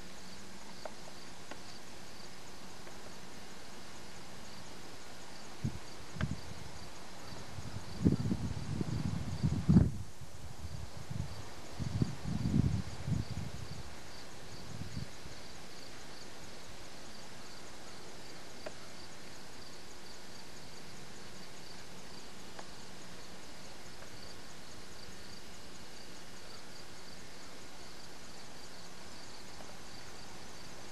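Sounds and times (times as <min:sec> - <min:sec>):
insects chirping: 0:00.0 - 0:30.9.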